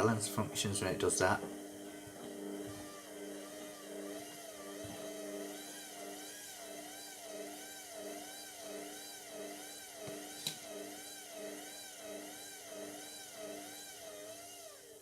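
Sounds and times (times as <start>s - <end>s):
washing machine drum motor whine: 0.0s - 14.8s.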